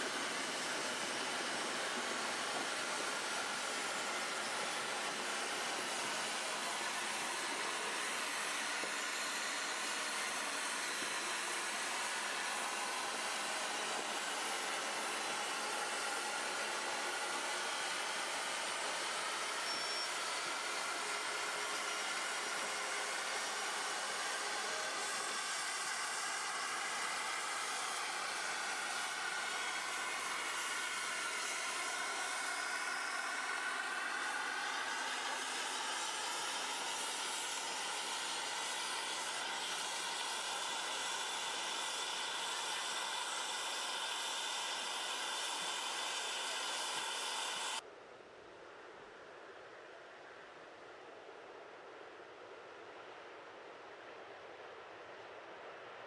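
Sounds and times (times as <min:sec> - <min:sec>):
sweeping rushing hiss: 0:00.0 - 0:47.8.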